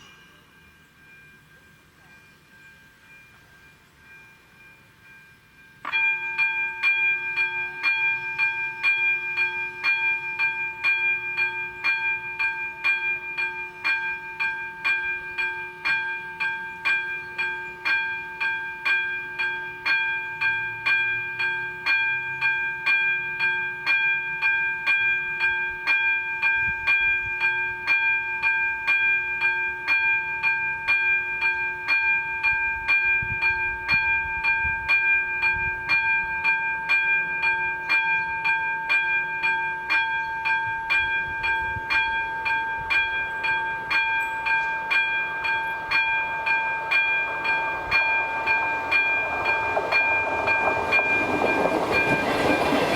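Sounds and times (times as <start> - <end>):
level crossing bell ringing: 0.0 - 52.9.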